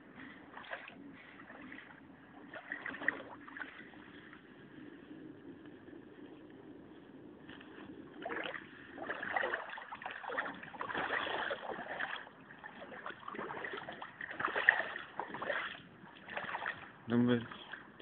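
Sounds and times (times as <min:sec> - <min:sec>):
floodwater splashing and sloshing: 0:00.0 - 0:05.1, 0:07.4 - 0:18.0.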